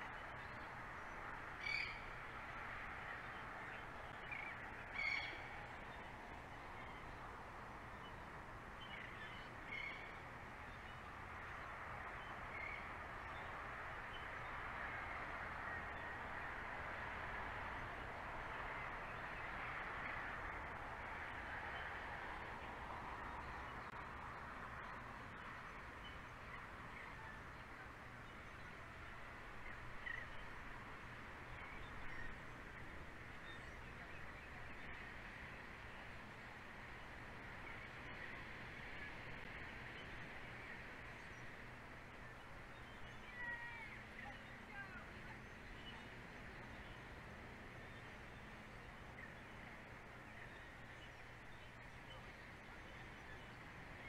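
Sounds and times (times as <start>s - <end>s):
steady outdoor hiss: 0.0s - 54.0s.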